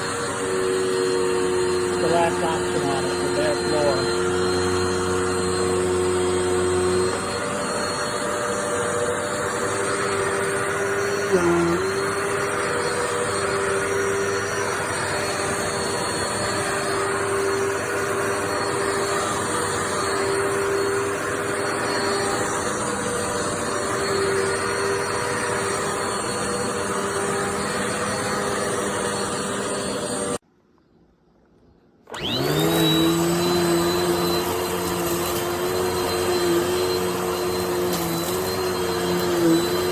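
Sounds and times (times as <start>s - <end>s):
vacuum cleaner motor whine: 0.0s - 30.4s, 32.1s - 39.9s.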